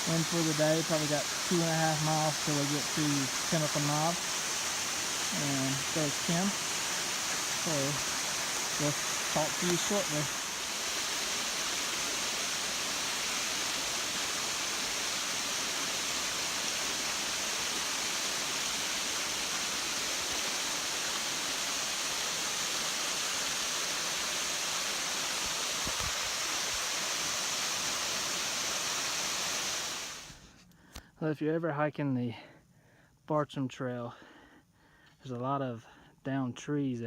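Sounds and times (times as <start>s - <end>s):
waterfall rushing: 0.0s - 30.3s.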